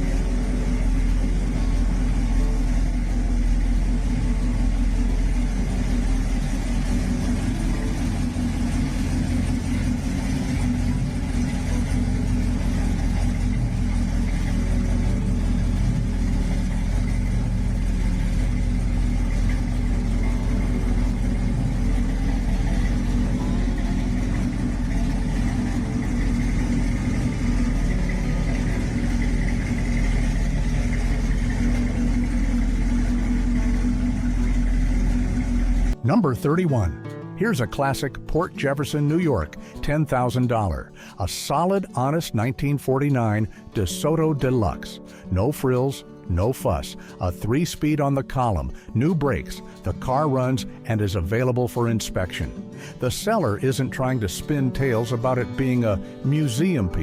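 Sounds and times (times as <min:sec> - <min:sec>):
pickup engine droning: 0:00.0 - 0:57.0.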